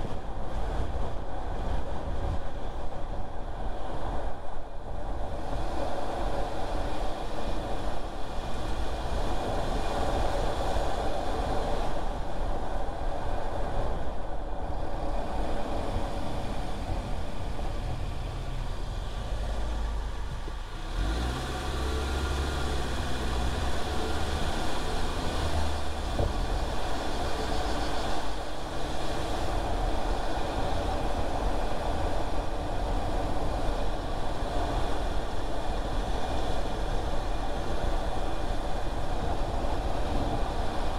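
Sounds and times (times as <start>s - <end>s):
car engine and road noise: 0.0s - 40.9s
low engine hum: 0.0s - 40.9s.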